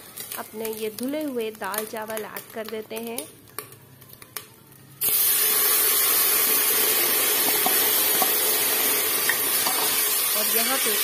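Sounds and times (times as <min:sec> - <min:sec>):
grains sizzling in hot fat: 0:00.0 - 0:11.0.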